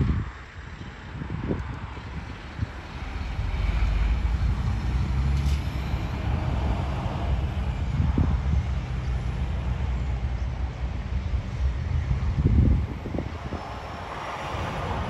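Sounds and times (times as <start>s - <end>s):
heavy truck driving past: 2.2s - 15.0s.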